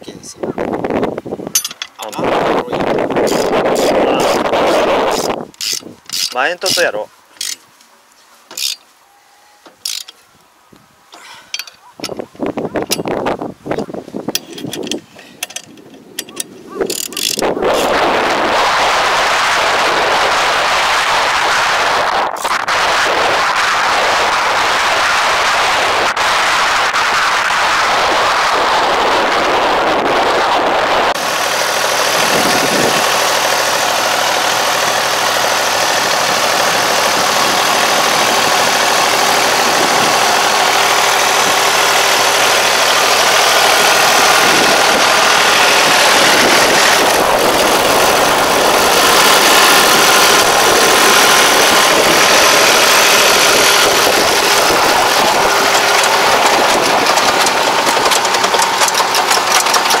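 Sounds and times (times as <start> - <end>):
tractor diesel engine running: 0.6 - 7.7, 11.5 - 60.0.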